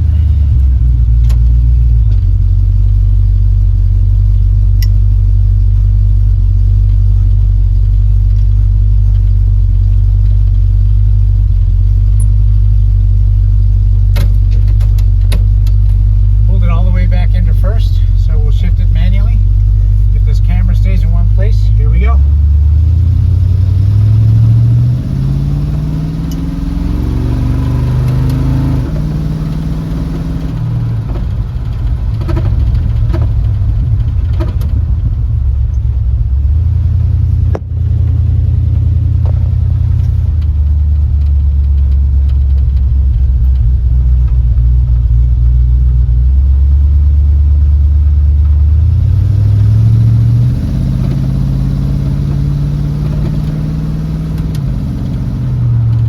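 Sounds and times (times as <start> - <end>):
vehicle engine revving: 7.1 - 56.0.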